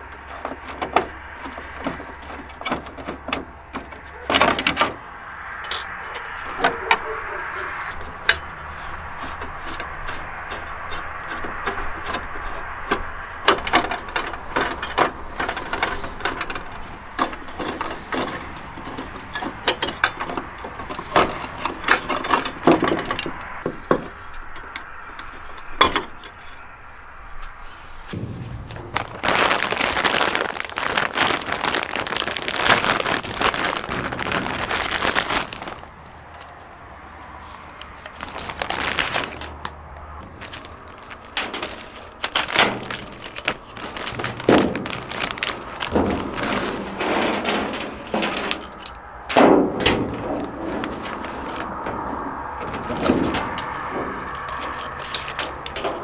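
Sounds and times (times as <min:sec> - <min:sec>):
plastic and metal parts clicking: 0:00.0 - 0:07.1, 0:07.9 - 0:27.5, 0:29.2 - 0:56.0
scraping and rattling: 0:00.0 - 0:56.0.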